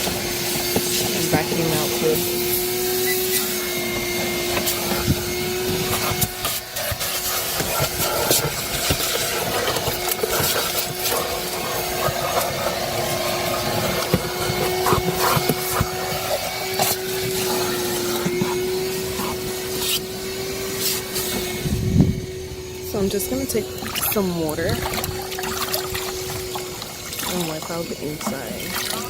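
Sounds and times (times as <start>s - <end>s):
vacuum cleaner whining: 0.0s - 29.0s.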